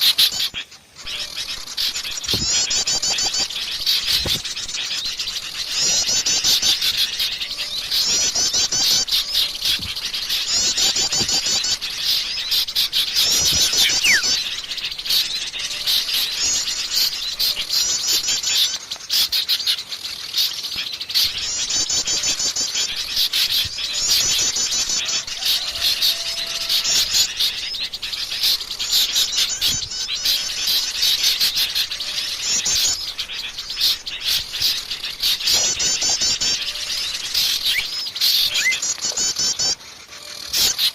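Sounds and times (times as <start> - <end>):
rapid high chattering bird call: 0.0 - 40.9
songbirds chirping: 0.0 - 40.9.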